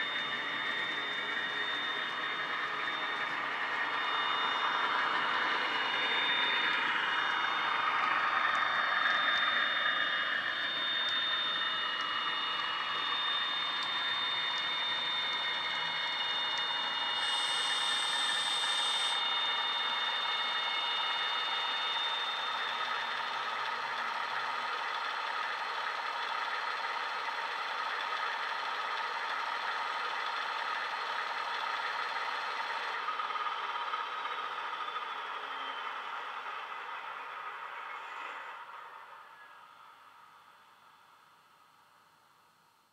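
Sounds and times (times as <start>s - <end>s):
model locomotive diesel engine: 0.0s - 42.4s.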